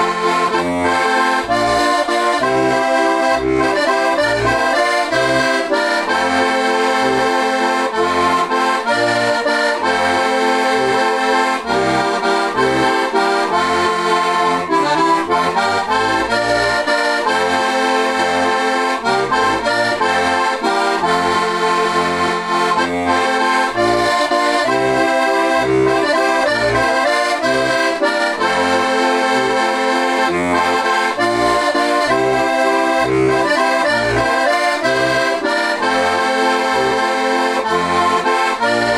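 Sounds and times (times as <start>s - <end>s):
button accordion folk tune: 0.0s - 38.9s.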